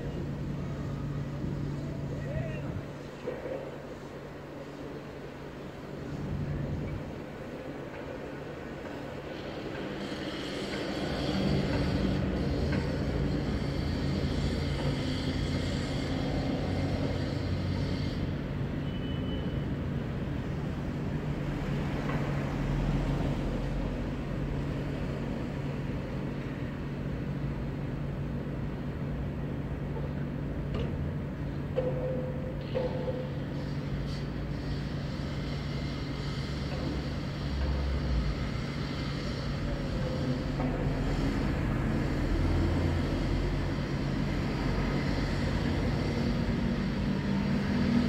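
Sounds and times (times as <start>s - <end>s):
city traffic: 0.0s - 48.0s.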